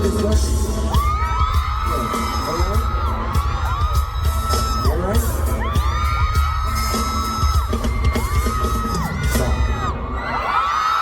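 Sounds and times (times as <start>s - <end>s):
loud pop music with bass: 0.0s - 11.0s
fans screaming: 0.6s - 11.0s.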